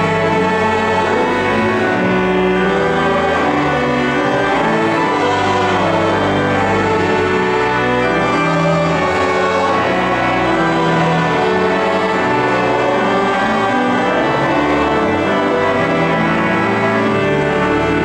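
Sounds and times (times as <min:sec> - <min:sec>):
pipe organ chords: 0:00.0 - 0:18.0.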